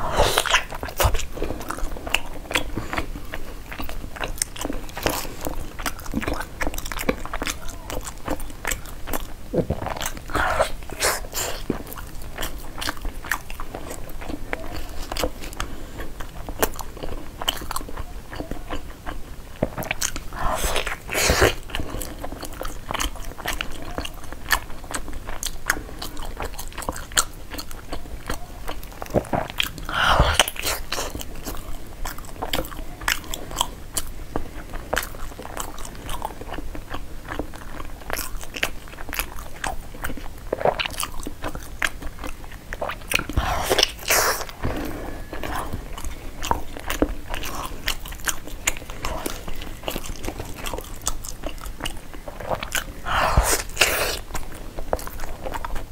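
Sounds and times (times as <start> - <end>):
chewing and mouth clicks: 0.2 - 55.9.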